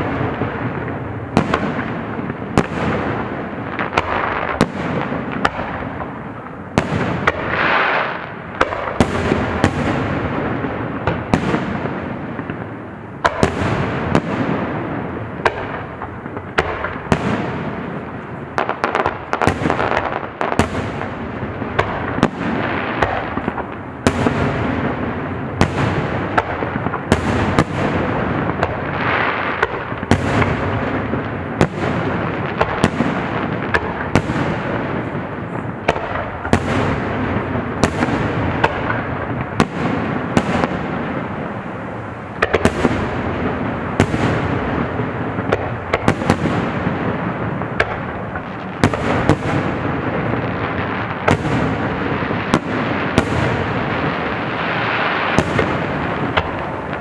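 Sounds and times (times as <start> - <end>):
fireworks sharp bangs: 0.0 - 57.0.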